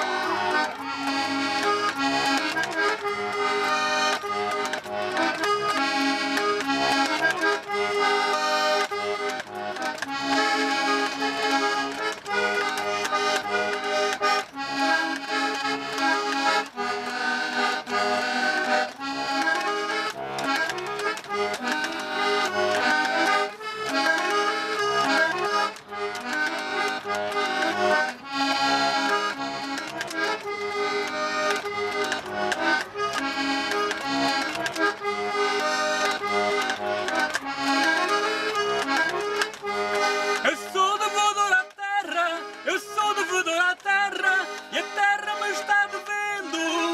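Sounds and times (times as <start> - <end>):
button accordion playing: 0.0 - 46.9.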